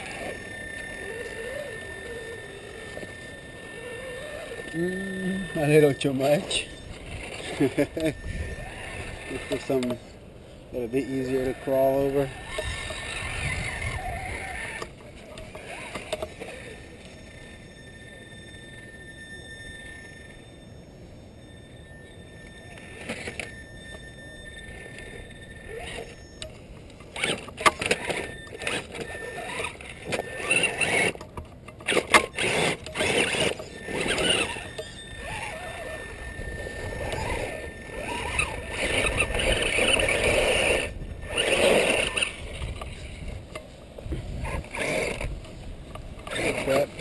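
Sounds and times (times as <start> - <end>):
toy car motor whirring: 0.0 - 10.1, 10.8 - 47.0.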